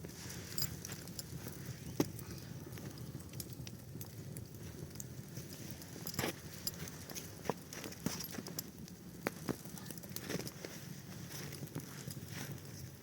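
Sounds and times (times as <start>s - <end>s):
sharp crackles and clicks: 0.0s - 13.0s.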